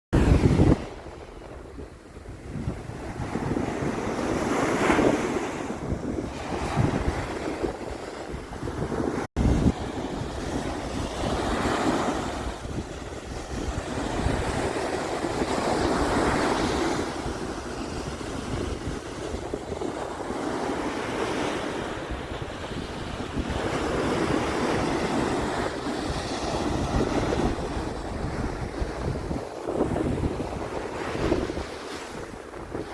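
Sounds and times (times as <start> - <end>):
sea waves breaking on beach: 0.2 - 32.9
wind rumbling on microphone: 0.2 - 32.9.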